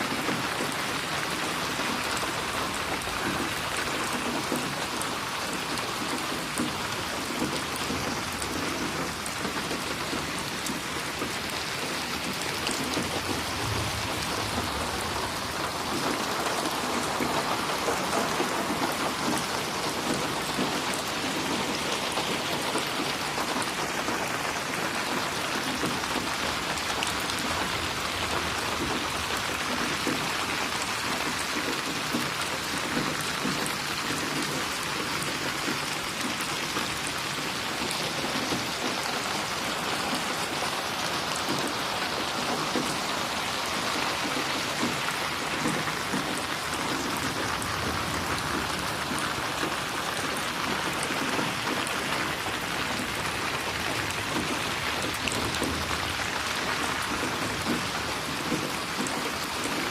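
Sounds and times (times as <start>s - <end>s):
rain splashing on a surface: 0.0s - 59.9s.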